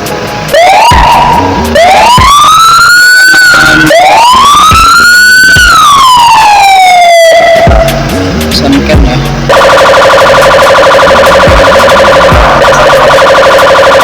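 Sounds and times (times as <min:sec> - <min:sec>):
electronic siren wailing: 0:00.5 - 0:08.0, 0:09.4 - 0:14.0.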